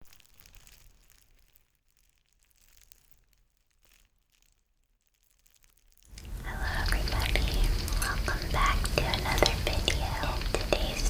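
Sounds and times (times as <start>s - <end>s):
faint crackles and clicks: 0.0s - 11.0s.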